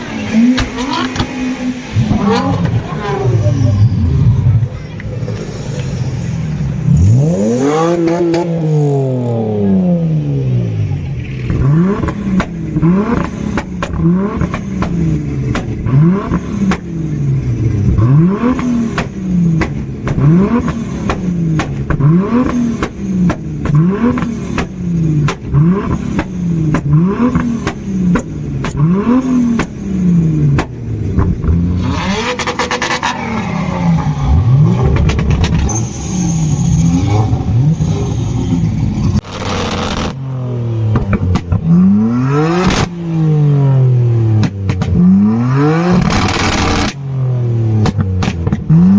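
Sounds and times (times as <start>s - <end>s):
exhaust crackling pops: 0.0s - 8.9s, 10.9s - 48.9s
car engine revving: 0.0s - 48.9s.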